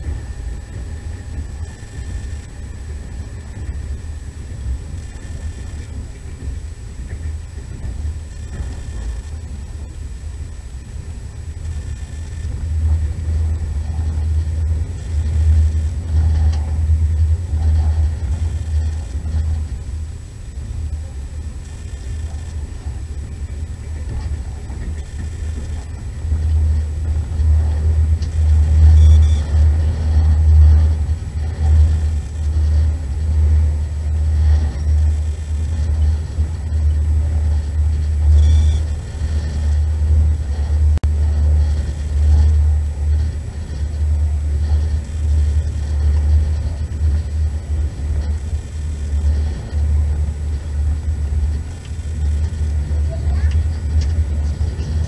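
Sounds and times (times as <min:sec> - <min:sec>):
train rumble from inside carriage: 0:00.0 - 0:55.0.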